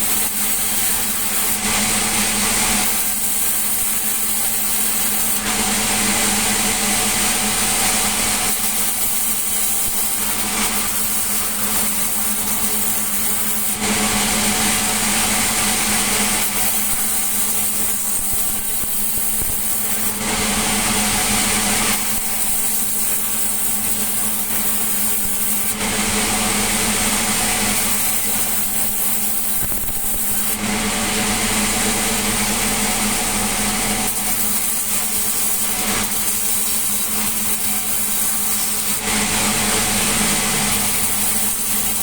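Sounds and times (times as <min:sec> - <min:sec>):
sawmill saw cutting timber: 0:00.0 - 0:42.0.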